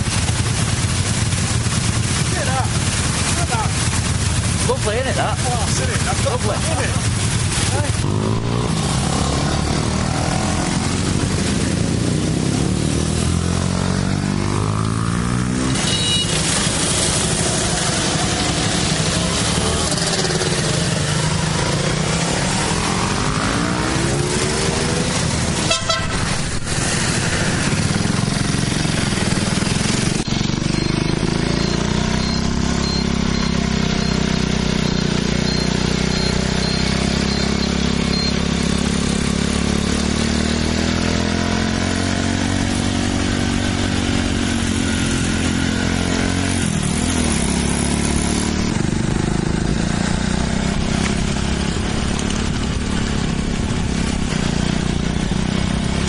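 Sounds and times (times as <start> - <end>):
motorcycle engine revving: 0.0 - 56.0
steady engine drone: 0.0 - 56.0.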